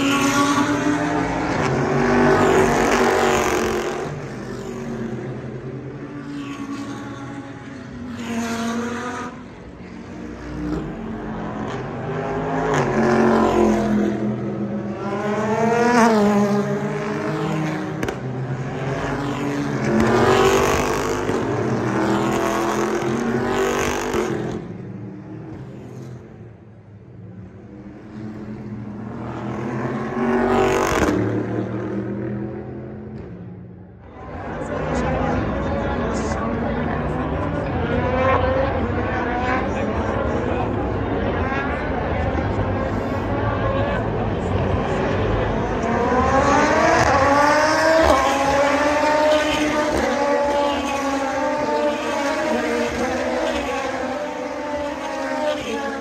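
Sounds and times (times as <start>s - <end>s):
racing cars passing: 0.0s - 56.0s.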